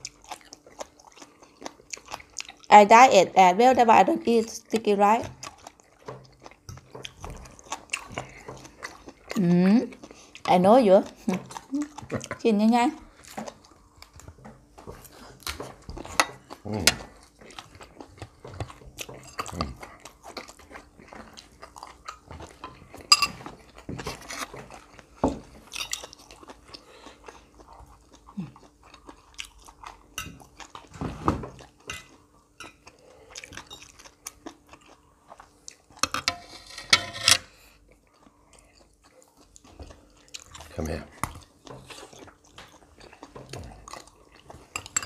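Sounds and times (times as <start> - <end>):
chewing crunchy raw vegetables: 0.0 - 2.9, 3.8 - 36.1, 37.7 - 45.0.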